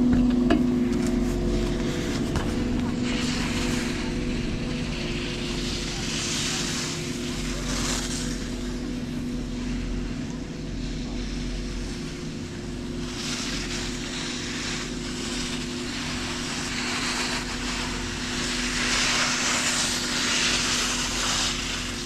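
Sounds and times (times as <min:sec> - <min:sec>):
steady machine drone: 0:00.0 - 0:22.0
rushing hiss: 0:01.4 - 0:22.0.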